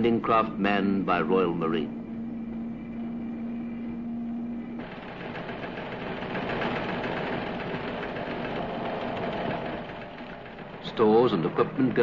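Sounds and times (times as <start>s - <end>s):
boat engine running: 0.0s - 12.0s
steady hum: 0.0s - 12.0s.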